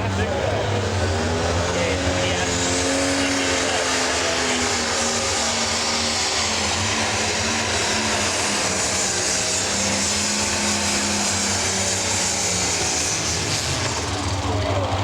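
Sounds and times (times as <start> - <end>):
diesel tractor engine running hard: 0.0 - 15.0.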